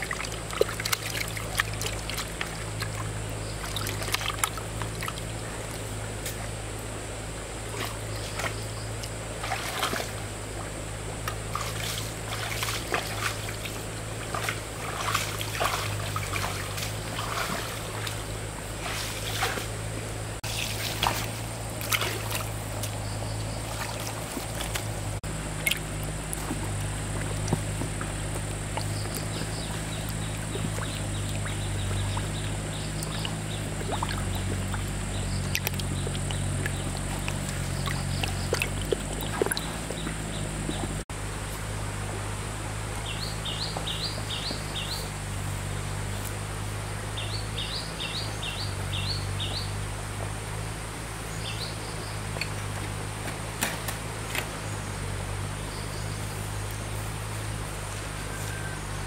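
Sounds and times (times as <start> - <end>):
water pump motor humming: 0.0 - 59.0
water splashing and trickling: 0.0 - 59.0.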